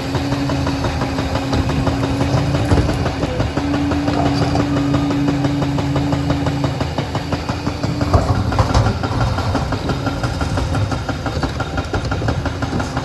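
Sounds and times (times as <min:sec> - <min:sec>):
diesel engine running: 0:00.0 - 0:13.0
rapid clatter: 0:00.0 - 0:13.0
steady whine: 0:00.0 - 0:13.0.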